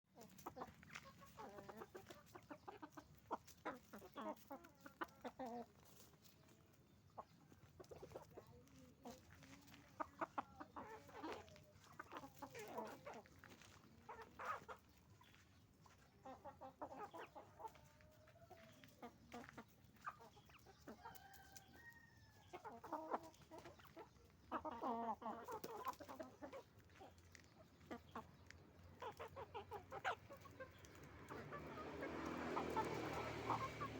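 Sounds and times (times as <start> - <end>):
chickens clucking and calling: 0.0 - 33.9.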